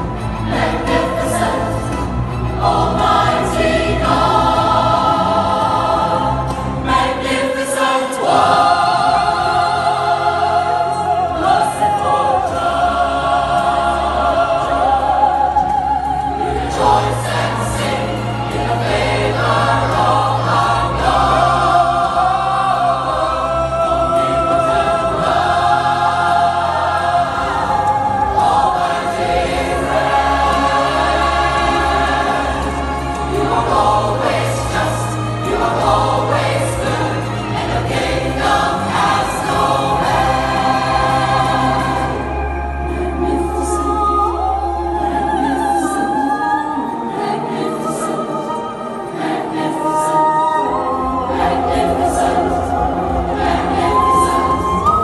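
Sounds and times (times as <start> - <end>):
choir singing a worship song: 0.0 - 55.0.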